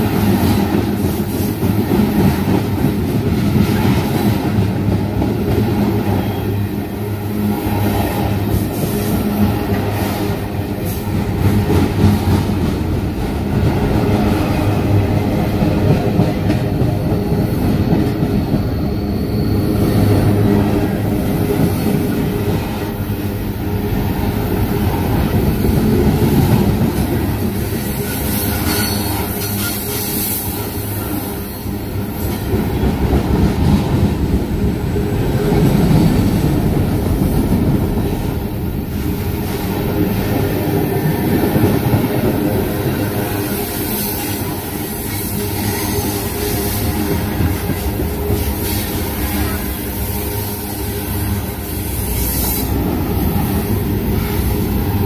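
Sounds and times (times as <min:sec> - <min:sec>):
freight train rumbling past: 0:00.0 - 0:55.0
wheels clattering on rail: 0:00.0 - 0:55.0.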